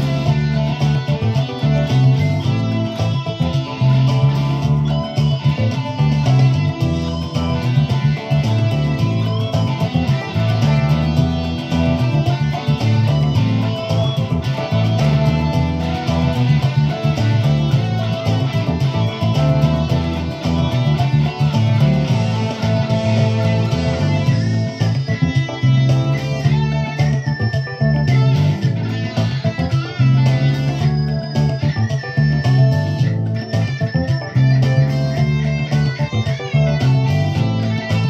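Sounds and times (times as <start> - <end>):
electric guitar boogie: 0.0 - 38.0.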